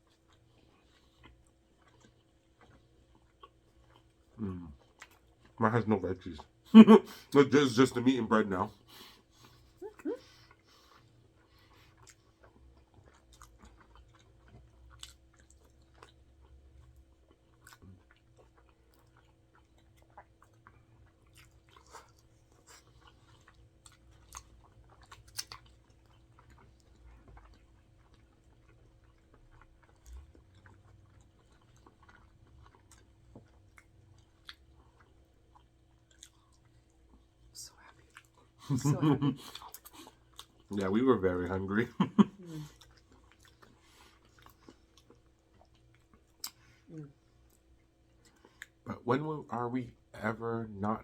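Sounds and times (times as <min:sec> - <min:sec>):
person chewing food: 0:00.0 - 0:05.6, 0:08.6 - 0:48.9
faint steady hum: 0:00.0 - 0:51.0.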